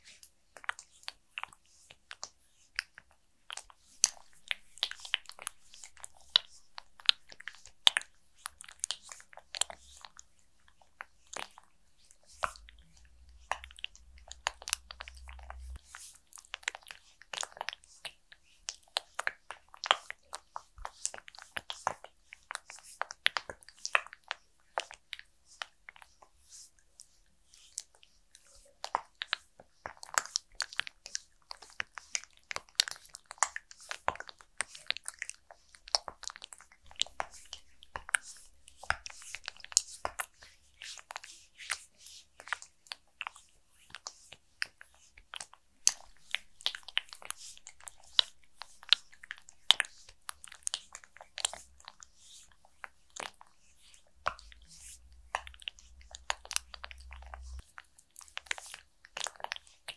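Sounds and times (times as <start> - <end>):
wet clicks and squelches of massage: 0.0 - 59.9.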